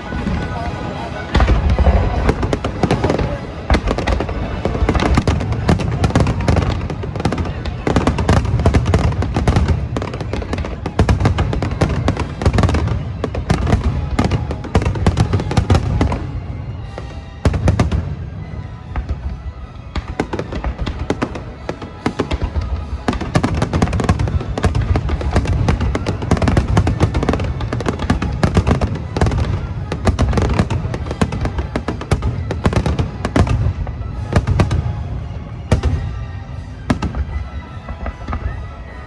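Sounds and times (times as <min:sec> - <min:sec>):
show music: 0:00.0 - 0:39.0.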